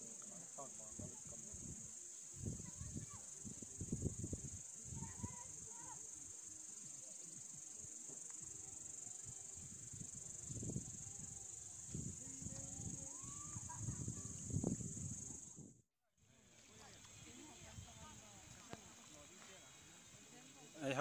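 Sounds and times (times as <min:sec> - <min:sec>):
high-pitched insect chorus: 0:00.0 - 0:15.8, 0:16.5 - 0:21.0.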